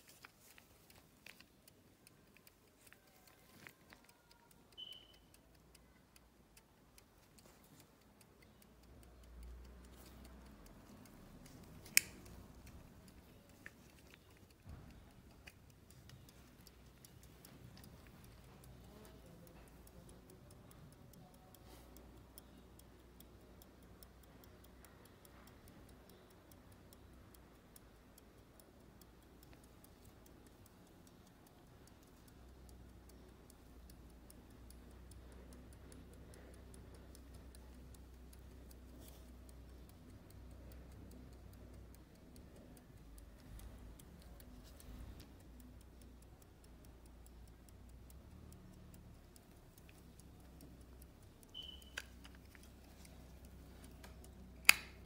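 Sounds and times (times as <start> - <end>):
pocket watch ticking: 0.0 - 55.0.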